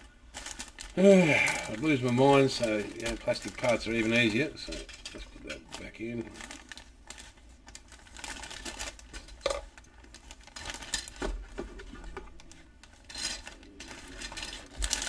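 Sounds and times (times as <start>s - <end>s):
plastic bags crinkling: 0.1s - 15.0s.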